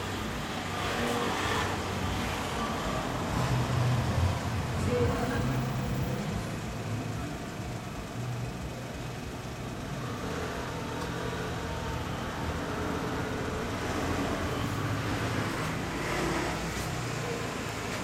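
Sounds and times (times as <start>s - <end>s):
engines rumbling: 0.0s - 18.0s.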